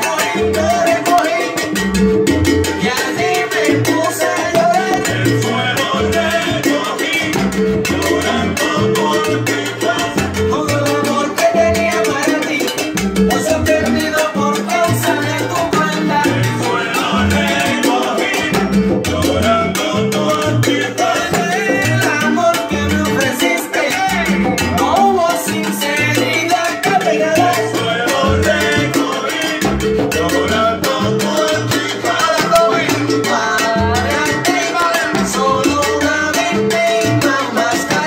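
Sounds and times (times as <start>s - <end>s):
bass line: 0.0s - 38.0s
congas and timbales: 0.0s - 38.0s
live salsa band: 0.0s - 38.0s
voices singing: 2.8s - 12.7s, 13.4s - 38.0s.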